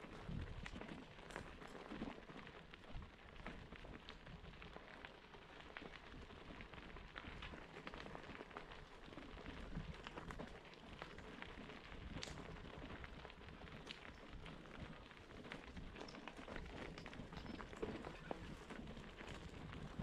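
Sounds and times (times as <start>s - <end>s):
bike tyres crunching on gravel: 0.0s - 20.0s.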